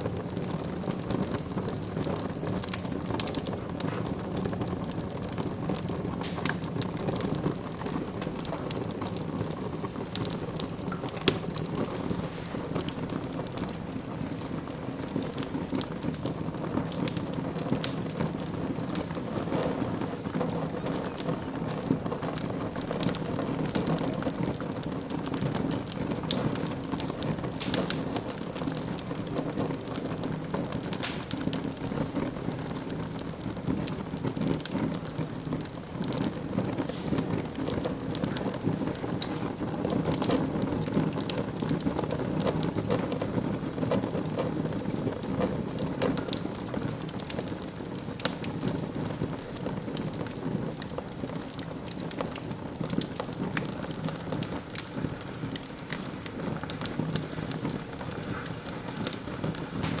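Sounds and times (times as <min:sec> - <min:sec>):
wood fire crackling: 0:00.0 - 1:00.0.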